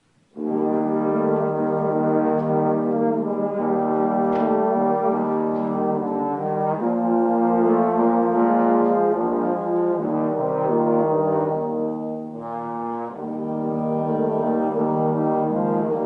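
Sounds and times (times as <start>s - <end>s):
trombones playing a hymn: 0.3s - 16.0s.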